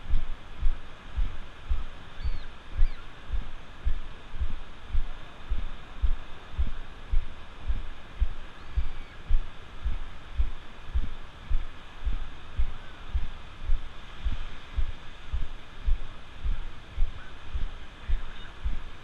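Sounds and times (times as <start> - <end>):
footsteps on wet sand: 0.0 - 18.8
surf hissing: 0.0 - 19.0.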